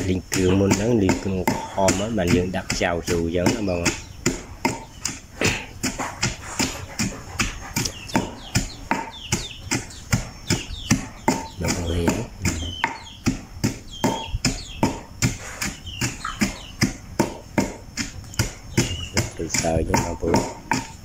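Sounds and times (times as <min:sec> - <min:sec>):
pestle pounding in stone mortar: 0:00.0 - 0:21.0.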